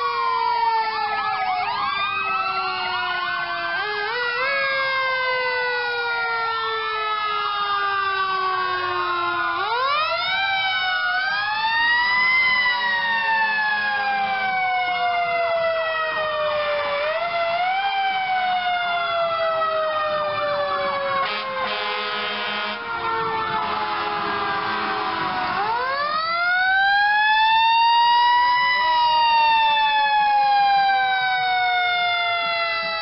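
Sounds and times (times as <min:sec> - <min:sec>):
fast warbling siren: 0:00.0 - 0:33.0
fire engine sirens wailing: 0:00.0 - 0:33.0.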